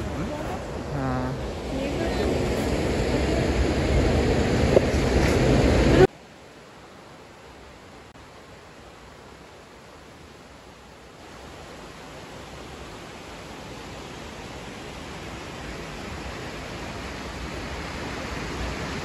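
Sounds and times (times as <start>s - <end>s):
water rushing over stones: 0.0s - 19.0s.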